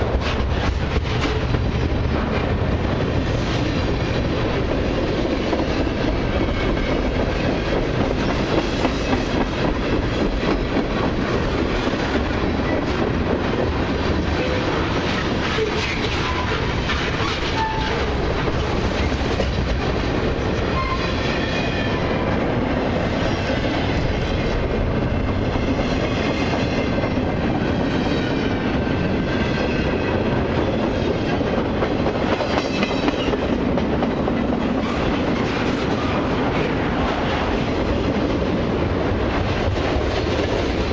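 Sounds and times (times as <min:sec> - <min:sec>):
freight train rolling past: 0:00.0 - 0:40.9.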